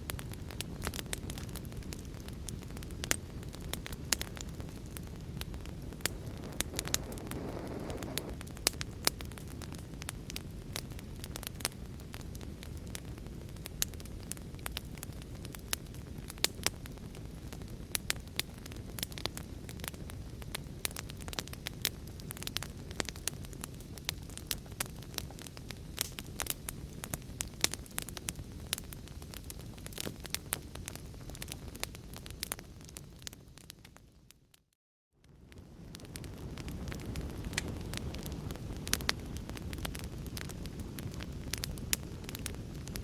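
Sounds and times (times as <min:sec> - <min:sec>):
low rumble of flame: 0:00.0 - 0:43.0
wood fire crackling and popping: 0:00.0 - 0:43.0
fire hissing: 0:00.1 - 0:33.8, 0:35.6 - 0:43.0.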